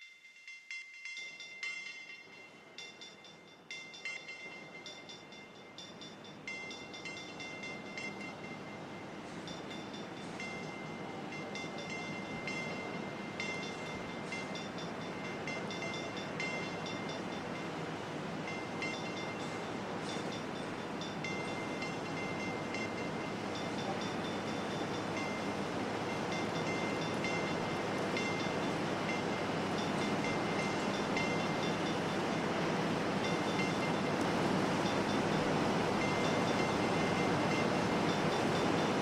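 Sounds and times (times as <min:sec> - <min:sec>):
rushing noise wash: 0:04.3 - 0:39.0.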